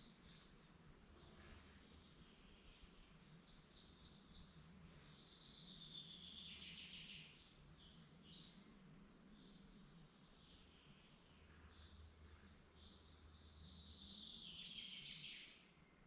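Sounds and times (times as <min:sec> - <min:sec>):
faint low hum: 0:00.0 - 0:14.6
songbird singing: 0:00.0 - 0:16.0.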